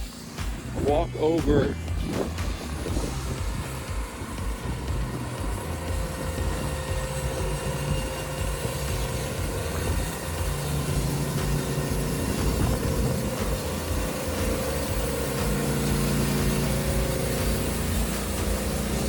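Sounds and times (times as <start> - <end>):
sawmill engine running: 0.0 - 19.0.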